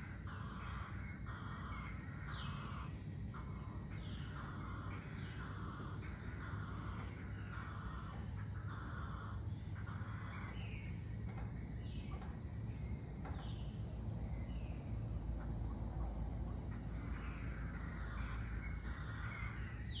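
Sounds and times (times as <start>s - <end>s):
bird calls: 0.0s - 20.0s
insects trilling: 0.0s - 20.0s
low steady hum: 0.0s - 20.0s.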